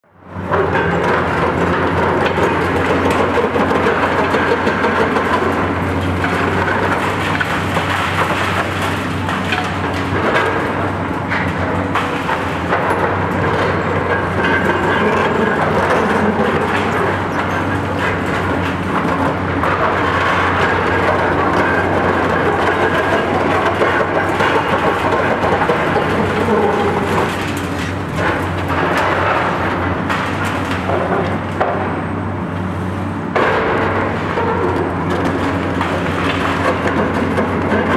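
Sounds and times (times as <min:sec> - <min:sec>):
excavator diesel engines running: 0:00.0 - 0:37.9
concrete and steel crunching: 0:00.3 - 0:37.9.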